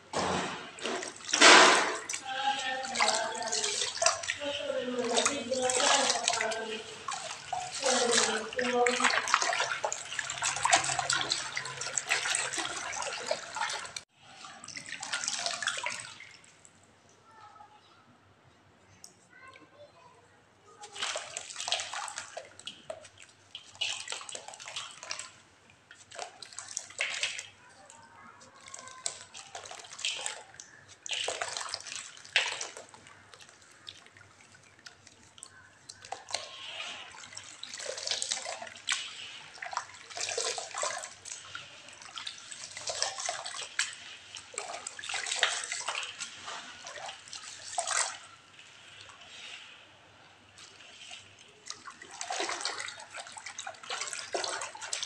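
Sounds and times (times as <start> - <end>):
water splashing and sloshing: 0.0 - 17.7, 19.0 - 55.0.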